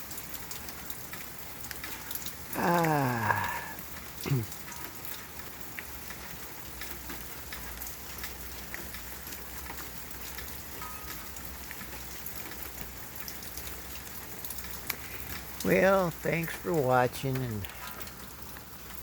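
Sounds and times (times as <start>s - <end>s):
light rain on hard surfaces: 0.0s - 19.0s.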